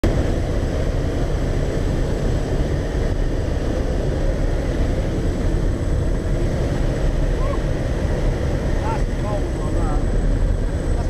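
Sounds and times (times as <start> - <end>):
aircraft engine: 0.0 - 11.0
wind buffeting microphone: 0.0 - 11.0.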